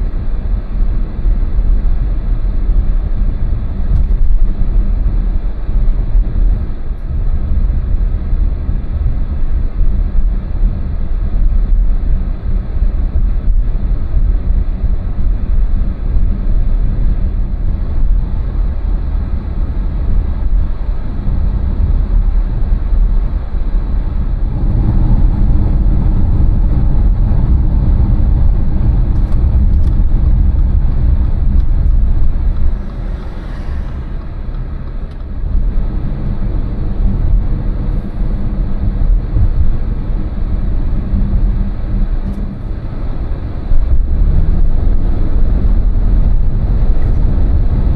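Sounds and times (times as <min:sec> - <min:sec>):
car engine and tyre rumble: 0:00.0 - 0:47.9.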